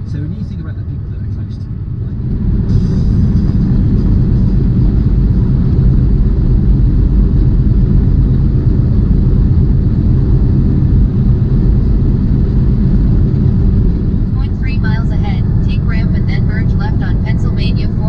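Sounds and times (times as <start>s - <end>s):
road noise: 0.0s - 18.0s
truck engine drone: 0.0s - 18.0s.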